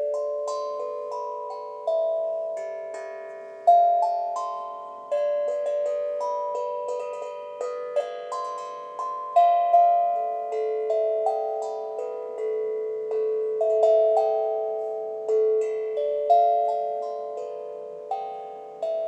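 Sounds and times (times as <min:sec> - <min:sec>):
steel tongue drum melody: 0:00.0 - 0:19.0.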